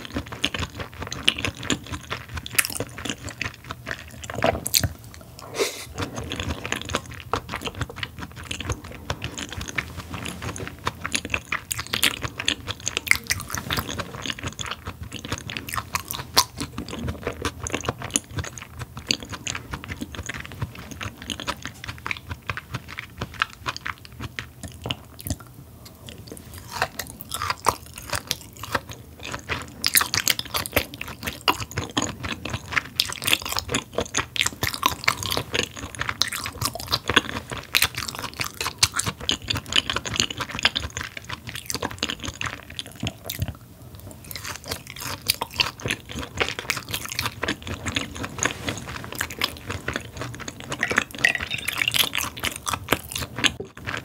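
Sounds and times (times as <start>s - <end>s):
close-miked chewing: 0.0s - 54.0s.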